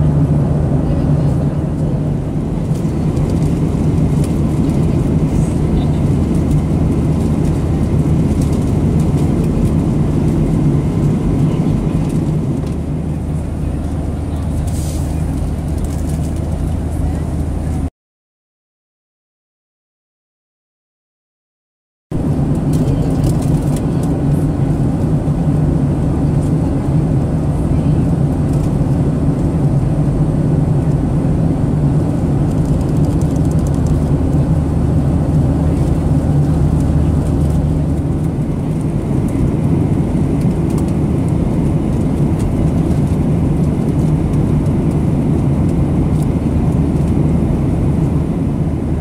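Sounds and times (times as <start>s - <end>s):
airplane cabin drone: 0.0s - 17.9s, 22.1s - 49.0s.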